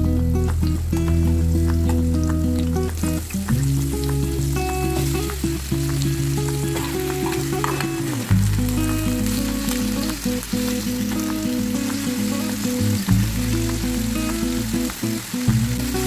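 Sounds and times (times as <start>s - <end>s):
food sizzling in a pan: 1.3s - 16.0s.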